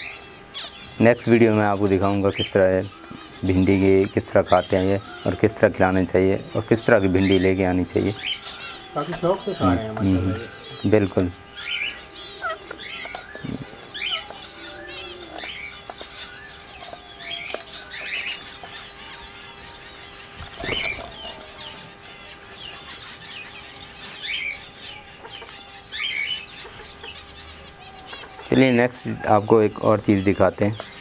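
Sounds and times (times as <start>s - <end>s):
faint steady hum: 0.0s - 31.0s
high rapid twittering: 0.0s - 31.0s
parakeets chirping: 0.0s - 31.0s.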